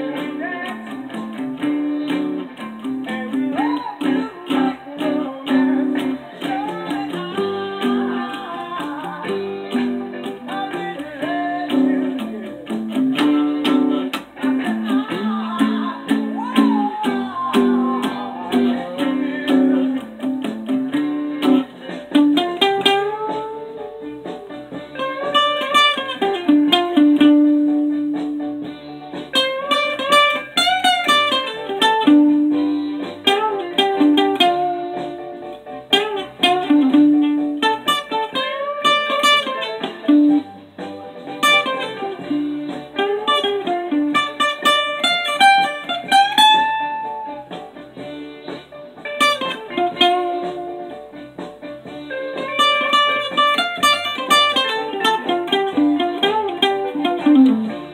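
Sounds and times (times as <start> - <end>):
blues guitar playing: 0.0 - 57.9.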